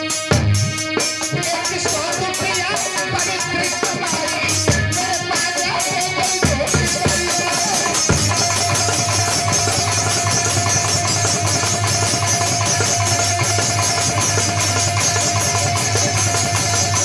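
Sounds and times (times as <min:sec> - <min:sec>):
drum machine rhythm: 0:00.0 - 0:17.0
electronic keyboard playing: 0:00.8 - 0:17.0.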